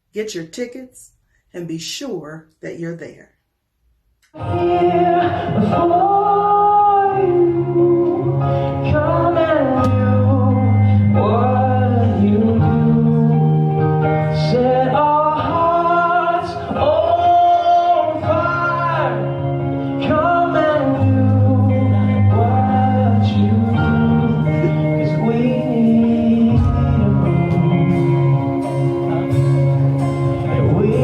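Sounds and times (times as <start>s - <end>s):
gospel singing voices: 4.3s - 29.3s, 30.2s - 31.0s
sustained bass notes: 4.4s - 31.0s.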